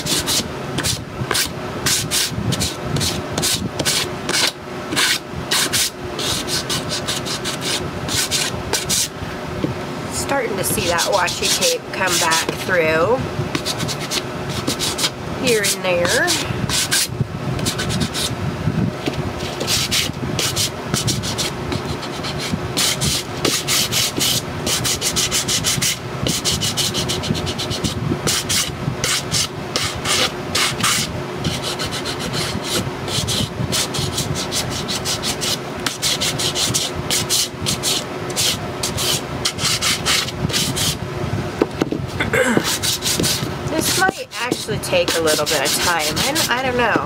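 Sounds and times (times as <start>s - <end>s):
sanding block rubbing chipboard: 0.0s - 9.1s, 10.7s - 12.7s, 13.6s - 18.3s, 19.4s - 41.0s, 42.7s - 46.8s.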